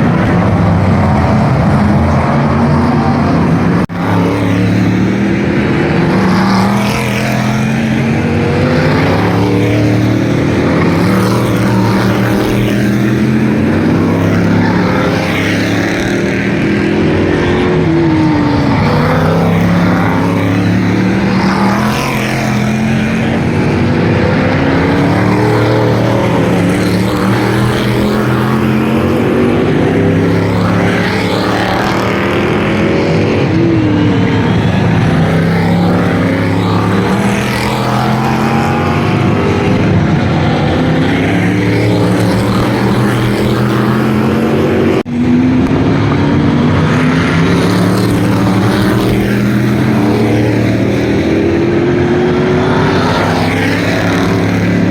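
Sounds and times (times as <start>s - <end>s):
stock car engines racing: 0.0s - 54.9s.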